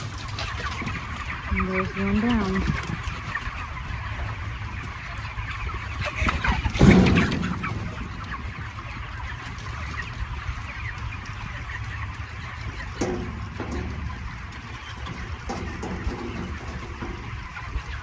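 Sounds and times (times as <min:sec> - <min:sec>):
chickens clucking and chirping: 0:00.0 - 0:18.0.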